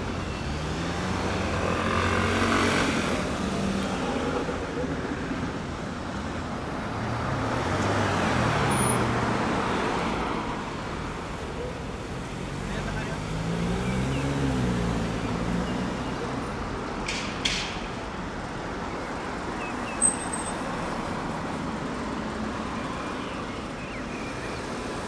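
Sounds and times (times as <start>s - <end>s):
vehicles driving past: 0.0s - 25.0s.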